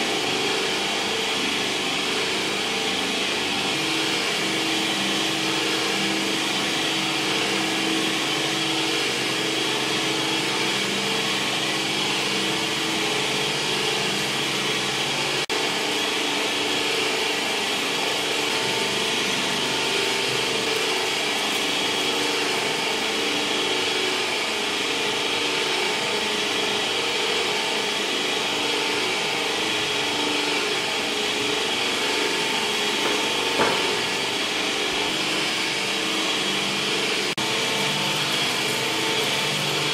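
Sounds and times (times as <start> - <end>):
electric meat grinder humming: 0.0 - 39.9.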